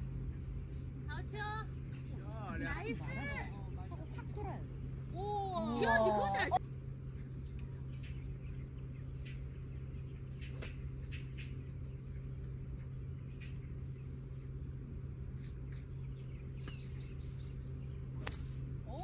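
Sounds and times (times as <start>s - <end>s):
birds chirping: 0.0s - 6.0s, 7.0s - 19.0s
steady low hum: 0.0s - 19.0s.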